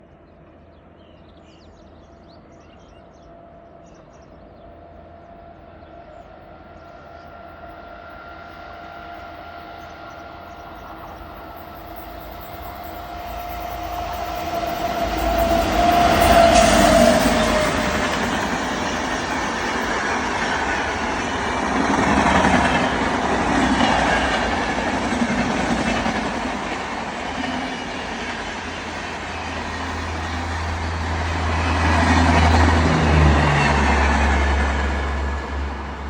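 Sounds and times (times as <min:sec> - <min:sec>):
train rumbling with a whine: 0:00.0 - 0:36.0.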